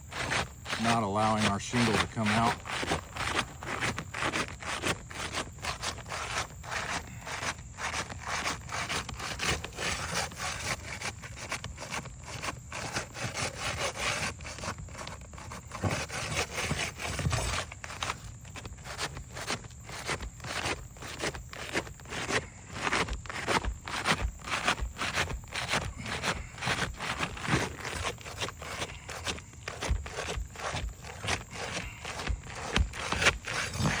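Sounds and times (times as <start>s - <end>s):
scraping on roof shingle: 0.0s - 34.0s.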